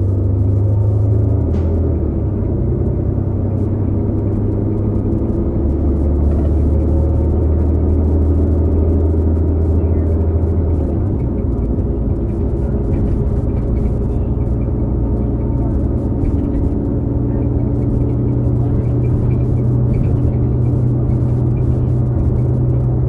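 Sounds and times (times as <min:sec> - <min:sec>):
bus engine drone: 0:00.0 - 0:23.0
transmission bearing whine: 0:00.0 - 0:23.0.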